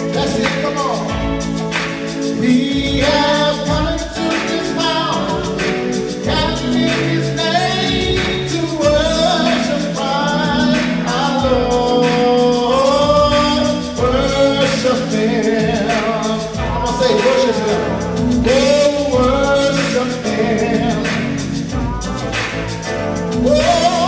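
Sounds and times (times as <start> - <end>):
electronic keyboard chords: 0.0 - 24.0
person singing gospel song: 0.0 - 24.0.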